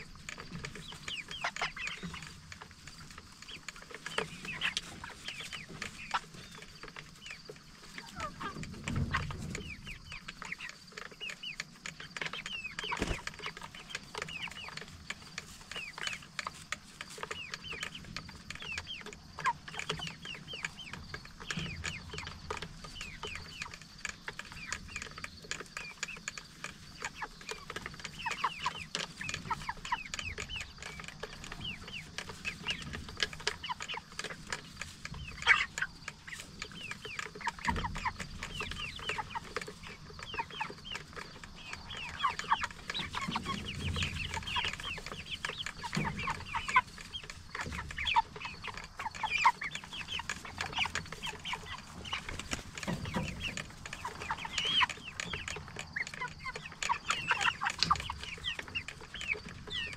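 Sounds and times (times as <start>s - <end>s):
chicks peeping and clucking: 0.0s - 59.9s.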